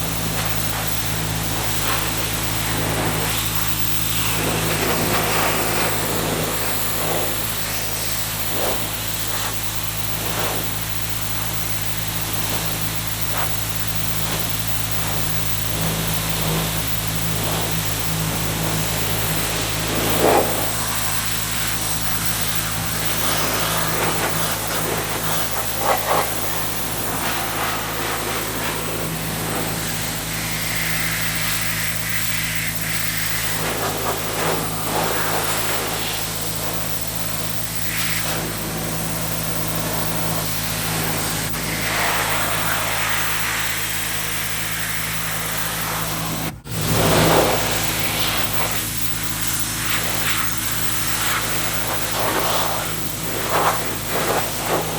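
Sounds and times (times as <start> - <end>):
pressure washer motor hum: 0.0 - 54.9
water jet hissing on car: 0.0 - 54.9.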